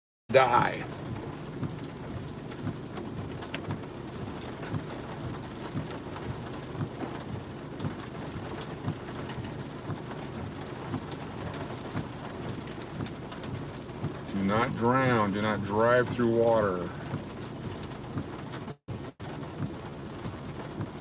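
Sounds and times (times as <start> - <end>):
heavy rain falling: 0.3 - 21.0
sharp taps of raindrops: 0.8 - 21.0.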